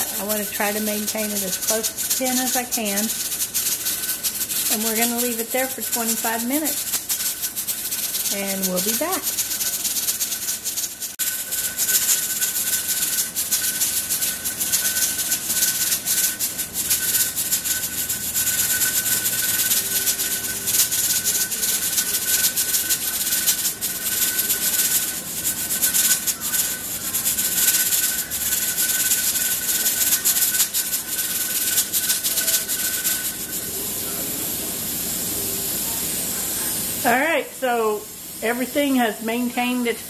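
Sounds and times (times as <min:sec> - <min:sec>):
pressure regulator rattling: 0:00.0 - 0:33.7
thin steady whistle: 0:00.0 - 0:36.7
steam hissing: 0:00.0 - 0:40.0.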